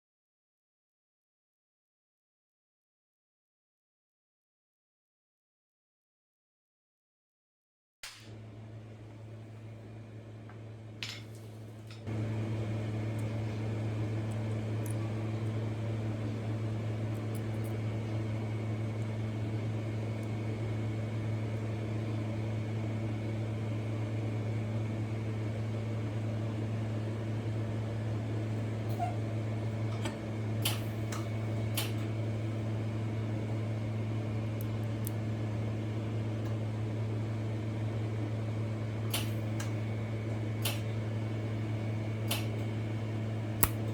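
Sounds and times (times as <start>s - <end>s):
welder humming with cooling fan: 8.0s - 43.9s.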